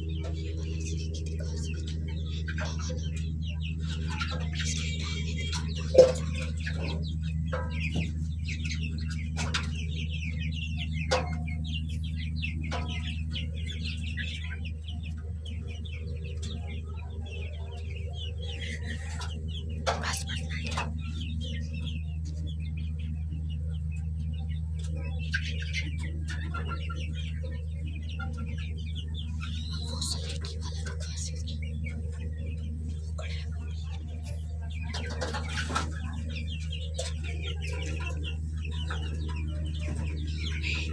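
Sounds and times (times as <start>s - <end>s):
chickens clucking: 0.0s - 40.9s
steady low hum: 0.0s - 40.9s.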